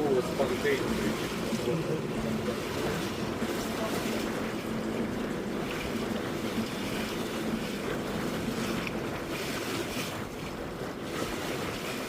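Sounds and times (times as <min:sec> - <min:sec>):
low motor hum: 0:00.0 - 0:12.0
rushing water: 0:00.0 - 0:12.0.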